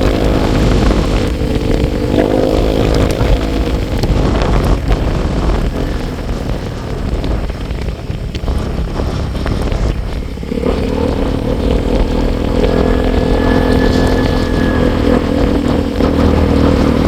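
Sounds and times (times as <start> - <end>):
motorcycle engine: 0.0 - 17.0
wind buffeting microphone: 0.0 - 17.0.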